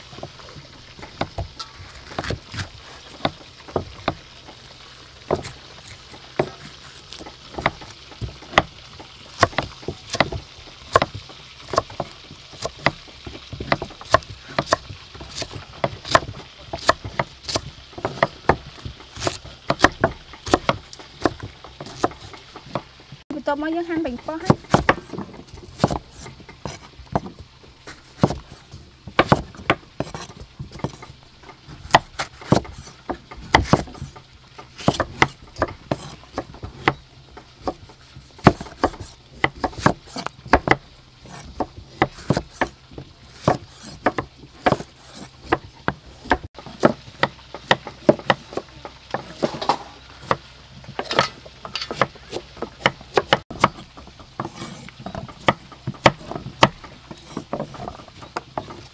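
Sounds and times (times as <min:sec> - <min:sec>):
knife striking wooden board: 0:01.0 - 0:04.2, 0:05.3 - 0:08.7, 0:09.3 - 0:22.9, 0:24.4 - 0:37.0, 0:37.6 - 0:58.9.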